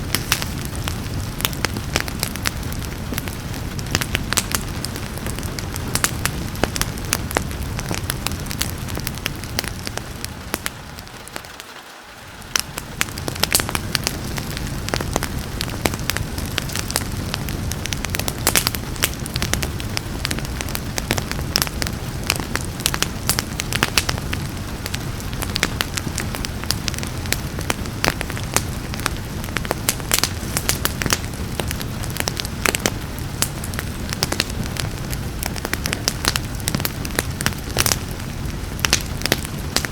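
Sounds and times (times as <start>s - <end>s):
rain hissing: 0.0s - 39.9s
wood fire crackling and popping: 0.0s - 39.9s.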